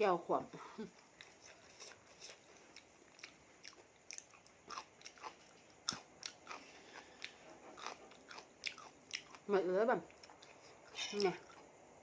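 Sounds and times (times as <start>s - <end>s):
person chewing and crunching: 0.9s - 9.5s, 10.1s - 11.7s.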